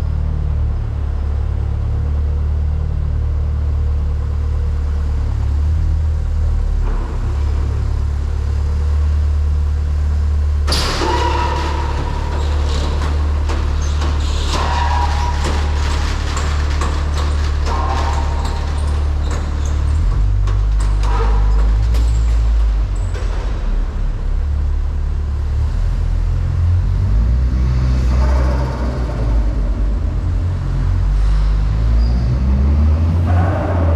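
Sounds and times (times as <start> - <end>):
car engine droning while driving: 0.0 - 33.9.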